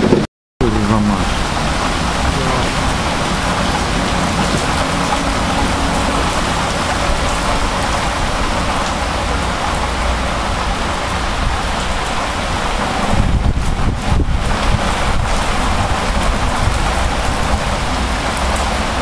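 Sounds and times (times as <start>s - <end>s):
heavy rain on roofs and pavement: 0.0s - 19.0s.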